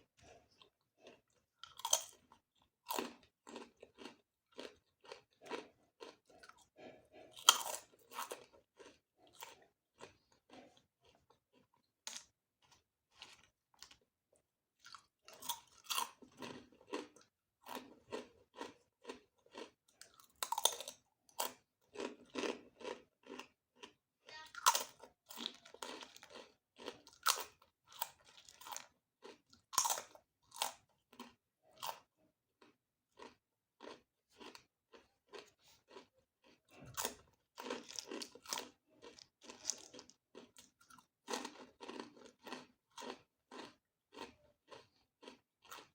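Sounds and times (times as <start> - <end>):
crunching and chewing crisp food: 0.0 - 45.9.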